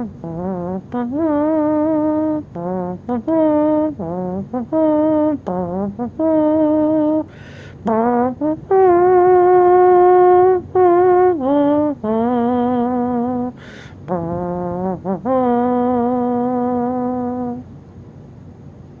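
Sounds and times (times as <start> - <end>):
melody of long held notes: 0.0 - 17.6.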